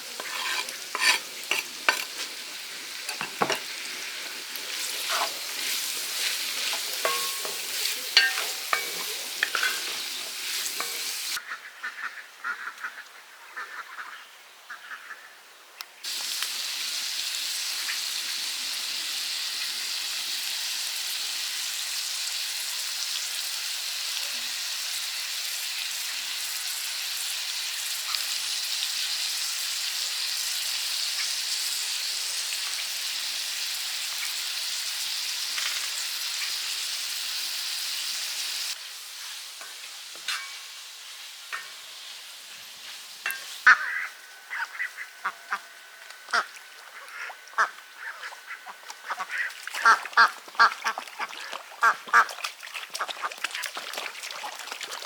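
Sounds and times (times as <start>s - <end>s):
food frying with sizzling hiss: 0.0s - 11.5s, 16.0s - 55.0s.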